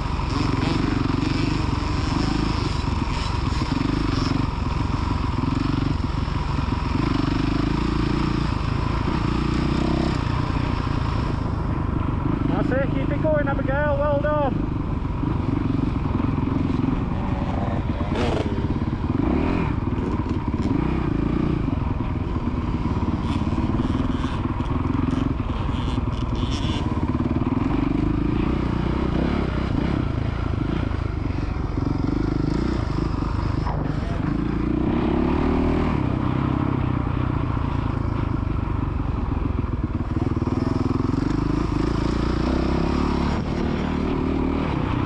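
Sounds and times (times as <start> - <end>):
dirt bike engine revving: 0.0 - 38.4, 39.1 - 45.0.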